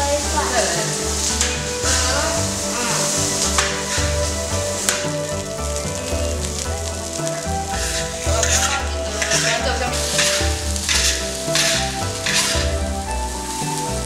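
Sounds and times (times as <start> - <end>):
food sizzling: 0.0 - 14.0
metal spatula scraping a wok: 0.4 - 5.3, 6.5 - 13.1.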